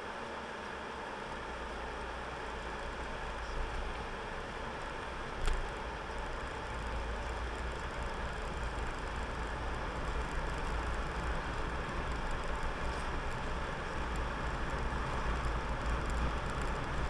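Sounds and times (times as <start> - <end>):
car engine inside cabin: 0.0 - 17.0
tyres on wet road: 0.2 - 17.0.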